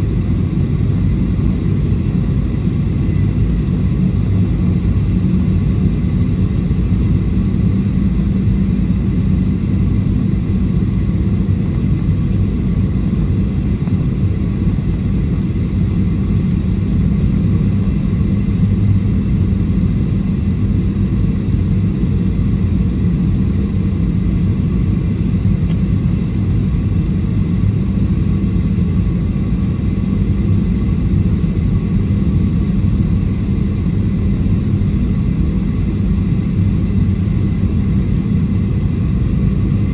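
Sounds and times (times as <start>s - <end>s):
aircraft cabin rumble: 0.0s - 39.9s
faint hum: 0.0s - 39.9s.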